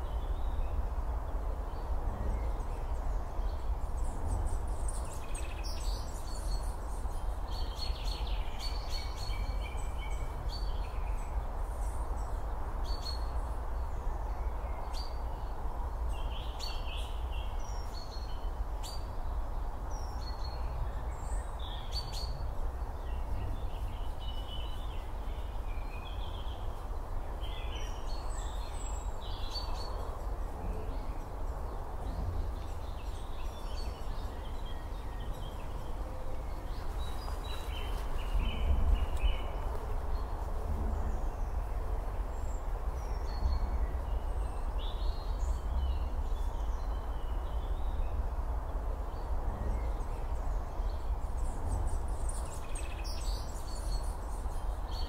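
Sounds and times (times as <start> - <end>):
low rumble and hiss: 0.0 - 55.0.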